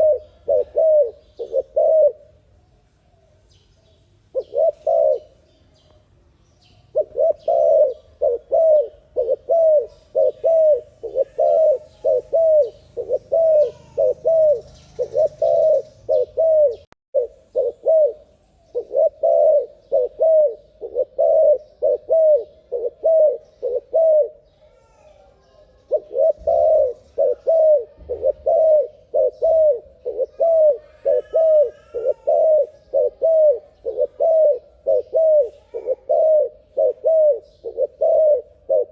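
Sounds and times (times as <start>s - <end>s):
dove cooing: 0.0s - 2.4s, 4.3s - 5.4s, 6.9s - 25.0s, 25.6s - 38.9s
birds chirping: 0.0s - 38.9s.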